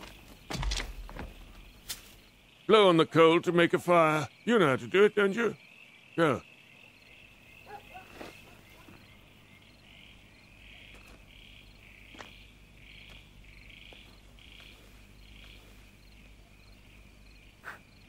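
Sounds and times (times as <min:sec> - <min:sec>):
insects chirping at night: 0:00.0 - 0:18.0.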